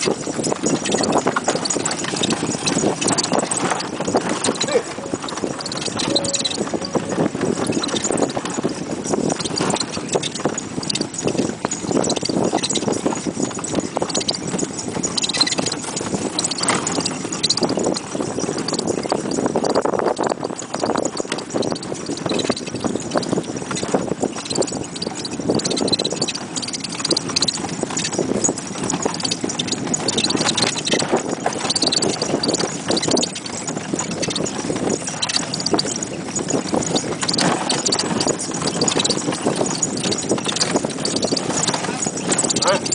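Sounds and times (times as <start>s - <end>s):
hooves clip-clopping on dirt road: 0.0s - 42.9s.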